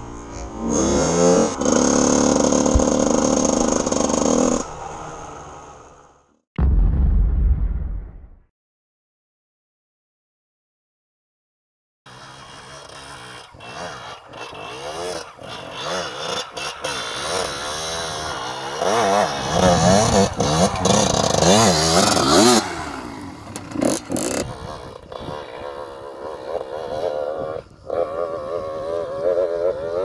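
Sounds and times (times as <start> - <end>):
dirt bike engine revving: 0.0 - 6.1, 12.1 - 30.0.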